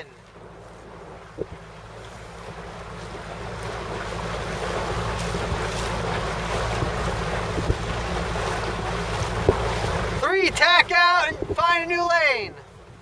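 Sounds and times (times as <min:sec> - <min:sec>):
boat motor drone: 0:00.0 - 0:13.0
water rushing past hull: 0:00.0 - 0:13.0
wind buffeting microphone: 0:00.4 - 0:13.0.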